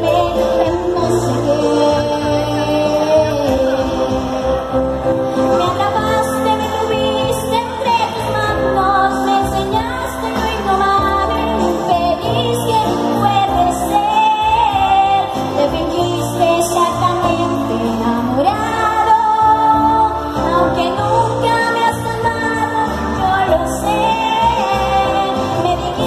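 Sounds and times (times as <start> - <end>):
instrumental accompaniment with bass: 0.0 - 26.0
woman singing into microphone: 0.0 - 26.0.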